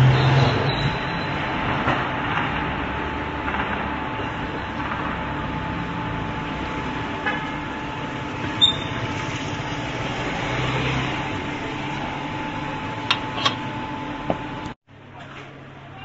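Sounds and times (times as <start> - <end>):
steady machine hum: 1.1 - 16.0.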